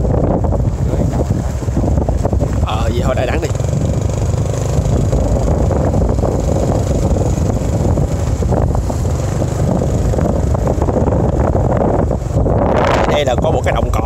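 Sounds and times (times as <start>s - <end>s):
motorbike engine: 0.0s - 12.8s
road noise: 0.0s - 14.0s
wind on microphone: 0.0s - 14.0s.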